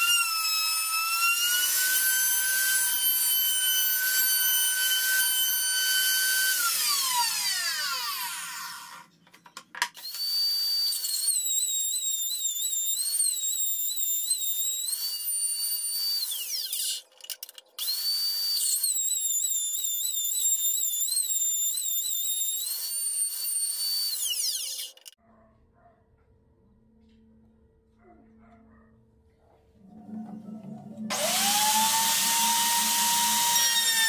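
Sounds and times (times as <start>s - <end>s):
router whining cutting wood: 0.0s - 9.1s, 10.0s - 25.2s, 29.9s - 34.0s.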